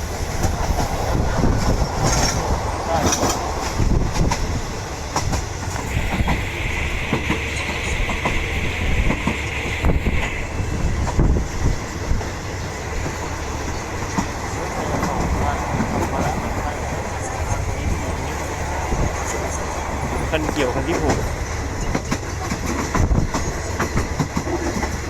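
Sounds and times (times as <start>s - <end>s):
wheels clacking over rail joints: 0.0s - 6.5s, 10.9s - 25.0s
train rumbling: 0.0s - 25.0s.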